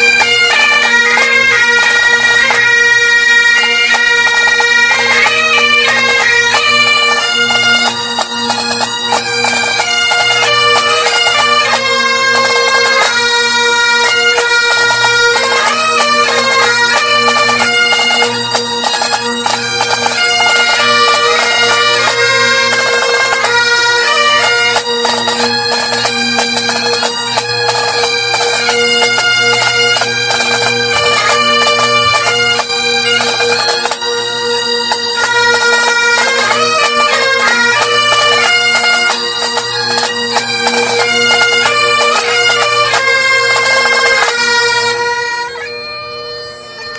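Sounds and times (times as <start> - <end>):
bagpipes playing: 0.0 - 46.9.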